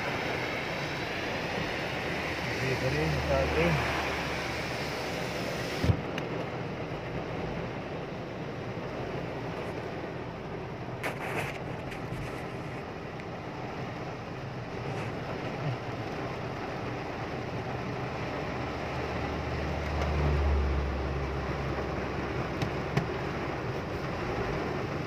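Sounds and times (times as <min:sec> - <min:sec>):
car road noise: 0:00.0 - 0:25.0
heavy rain on car: 0:00.0 - 0:25.0.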